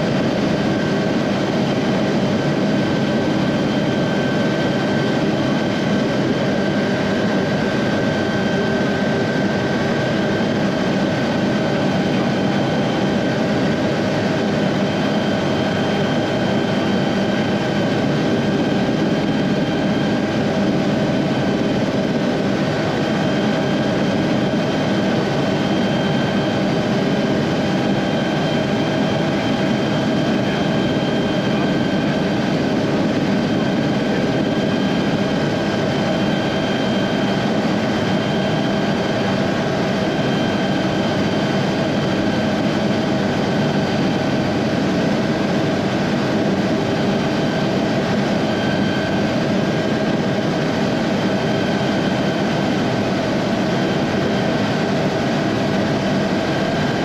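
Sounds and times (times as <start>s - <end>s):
rotor and airflow drone: 0.0s - 57.0s
turbine engine whine: 0.0s - 57.0s.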